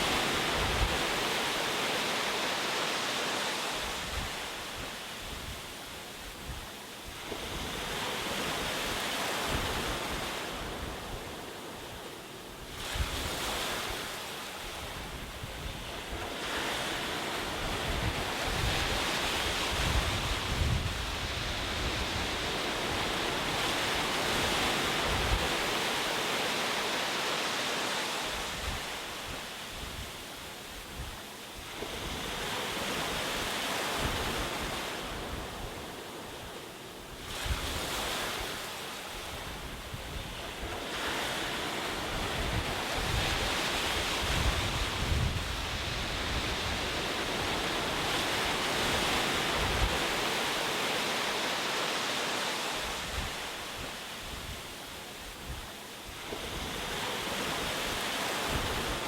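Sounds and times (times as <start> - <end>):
low rumbling of surf: 0.0 - 59.0
ocean waves breaking on shore: 0.0 - 59.0.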